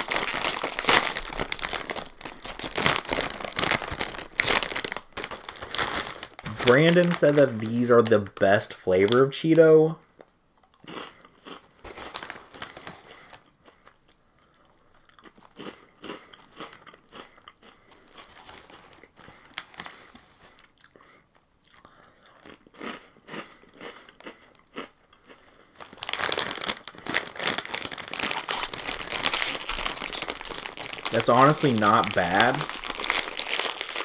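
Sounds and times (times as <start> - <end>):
crunchy chewing of snacks: 0.0 - 8.1, 10.1 - 34.0
plastic snack bag crinkling: 0.0 - 9.4, 10.9 - 20.8, 23.8 - 34.0.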